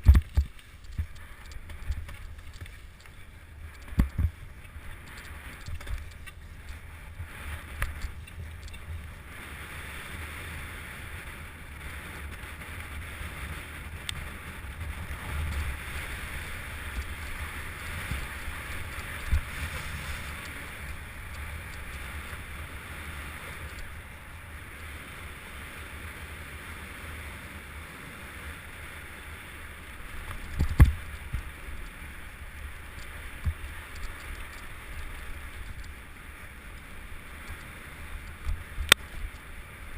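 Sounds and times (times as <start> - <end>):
bike riding over rough ground: 0.0 - 39.9
wind rushing over microphone: 0.0 - 39.9.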